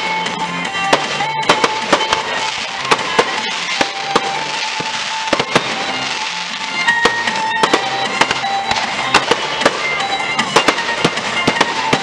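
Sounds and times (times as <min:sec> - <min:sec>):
firework bangs and crackles: 0:00.0 - 0:12.0
music over sound system: 0:00.0 - 0:12.0.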